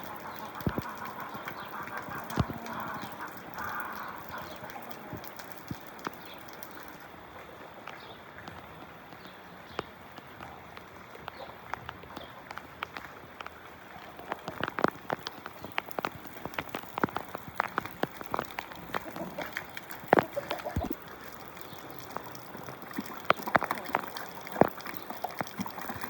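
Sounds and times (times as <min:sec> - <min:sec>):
water drops splashing on wet surface: 0:00.0 - 0:26.0.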